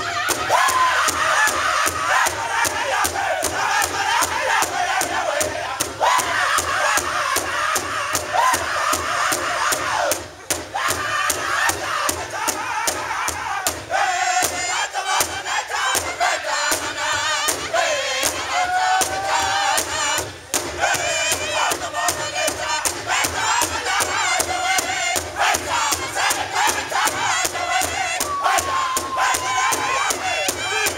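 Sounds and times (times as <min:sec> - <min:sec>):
group singing in strained voice: 0:00.0 - 0:30.9
large hide drum beating: 0:00.0 - 0:30.9.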